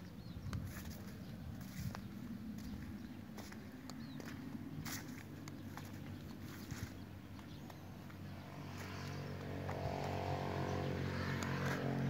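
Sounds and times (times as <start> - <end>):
engine hum: 0.0 - 12.0
footsteps on soft ground: 0.0 - 12.0.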